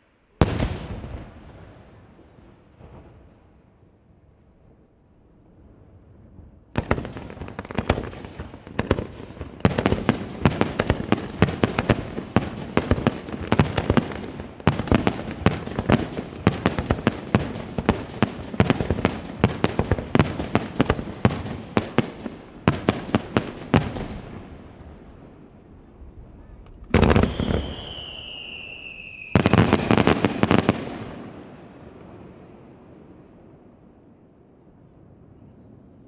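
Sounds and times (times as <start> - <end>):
fireworks bursting: 0.0 - 3.5, 6.4 - 33.2.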